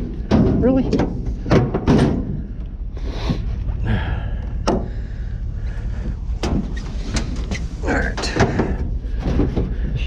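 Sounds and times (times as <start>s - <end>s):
scrap knocking and clunking: 0.0s - 3.8s, 4.6s - 10.0s
steady low rumble: 0.0s - 10.0s.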